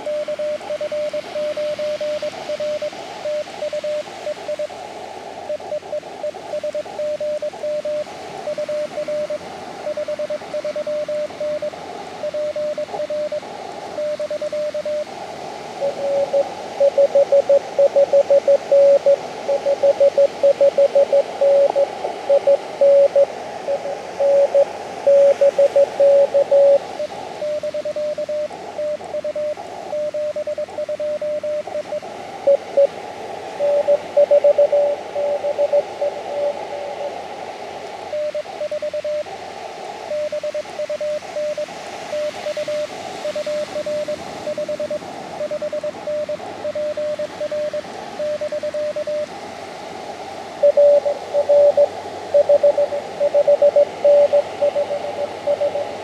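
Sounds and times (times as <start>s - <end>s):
morse code beeps: 0.0s - 4.7s, 5.4s - 15.1s, 15.7s - 37.2s, 38.1s - 39.3s, 40.1s - 49.3s, 50.6s - 56.0s
receiver hiss: 0.0s - 56.0s
louder lower-pitched morse signal: 5.4s - 39.4s, 40.1s - 49.4s, 50.6s - 56.0s.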